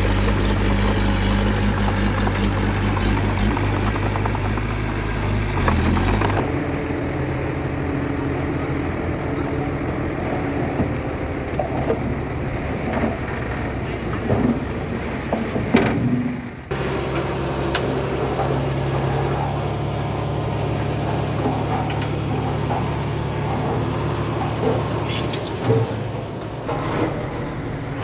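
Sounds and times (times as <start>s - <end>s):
heavy machinery diesel engine: 0.0s - 28.0s.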